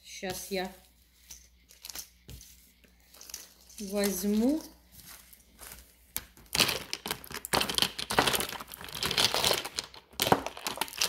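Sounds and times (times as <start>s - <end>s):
craft supplies crinkling and rustling: 0.2s - 11.0s.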